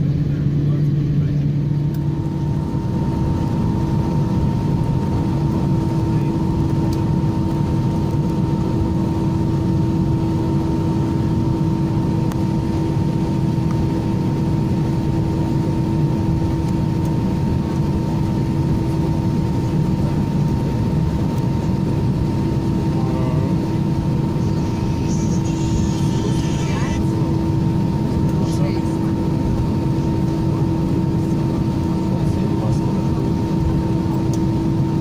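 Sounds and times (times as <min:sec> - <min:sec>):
faint engine whine: 0:00.0 - 0:35.0
jet engines idling drone: 0:00.0 - 0:35.0
steady hum: 0:00.0 - 0:35.0.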